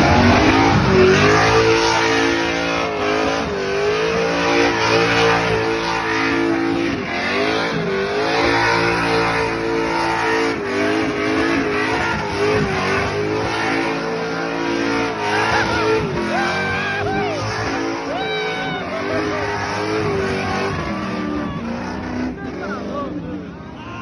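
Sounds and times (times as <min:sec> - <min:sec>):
engine revving high: 0:00.0 - 0:23.6.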